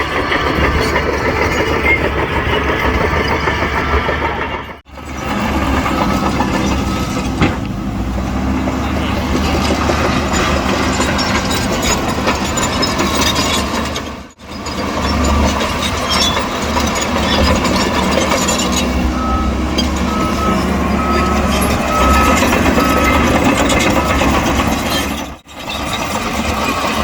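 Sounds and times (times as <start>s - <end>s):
heavy diesel engines running: 0.0s - 27.0s.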